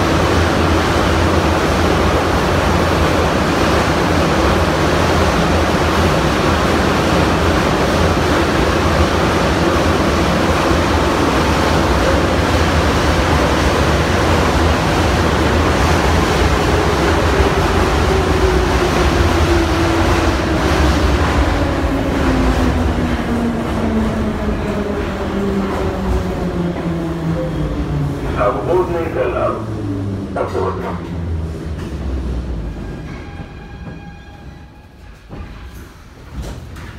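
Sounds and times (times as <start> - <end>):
train wheels rumbling in tunnel: 0.0 - 36.9.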